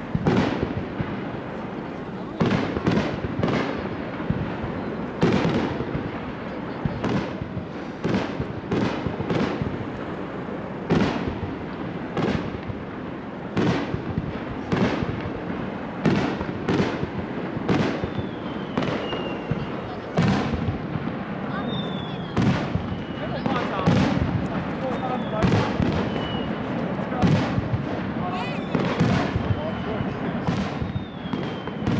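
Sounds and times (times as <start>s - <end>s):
firework shells booming: 0.0s - 31.9s.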